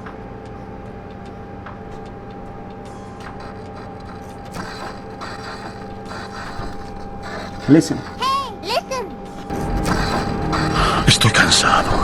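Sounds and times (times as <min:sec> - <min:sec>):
radiator cooling fan motor humming: 0:00.0 - 0:12.0.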